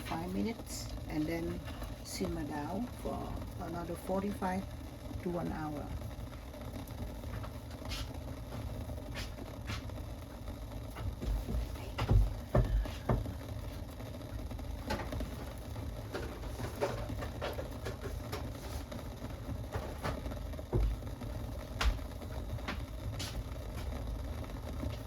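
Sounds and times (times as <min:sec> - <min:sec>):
pot of liquid boiling: 0:00.0 - 0:25.0.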